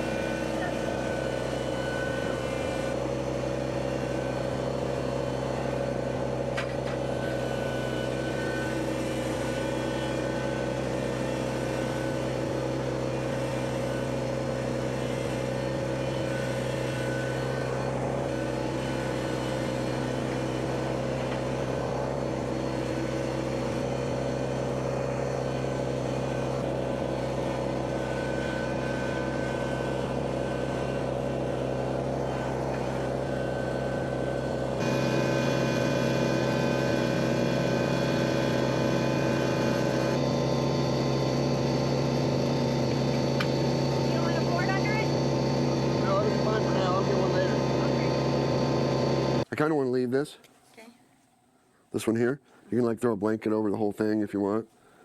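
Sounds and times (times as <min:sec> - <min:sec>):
tractor diesel engine running: 0:00.0 - 0:49.5.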